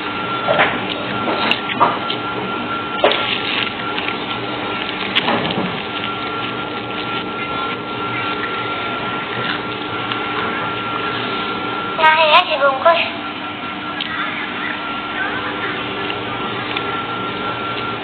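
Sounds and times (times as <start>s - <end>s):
food rustling and crackling: 0.0s - 12.4s, 13.2s - 18.0s
faint constant whine: 0.0s - 18.0s.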